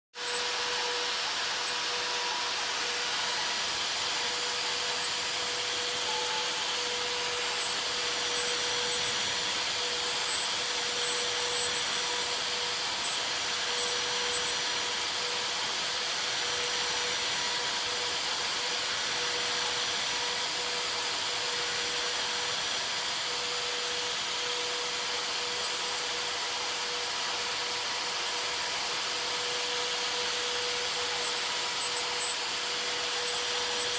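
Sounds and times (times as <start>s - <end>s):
router spindle whining: 0.2s - 33.9s.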